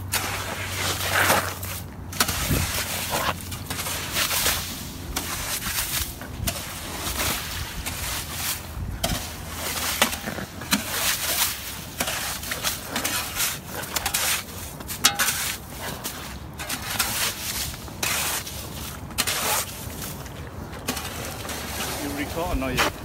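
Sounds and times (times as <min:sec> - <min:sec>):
ice slush crunching and scraping: 0:00.0 - 0:23.0.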